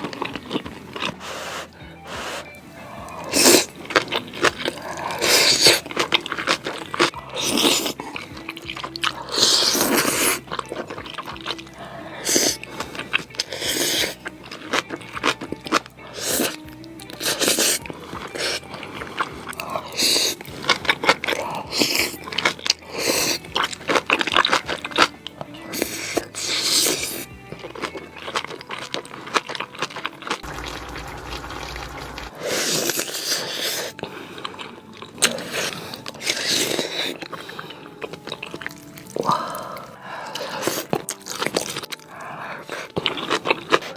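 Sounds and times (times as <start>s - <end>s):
background music: 0.0s - 43.9s
person chewing noodles: 0.0s - 43.9s.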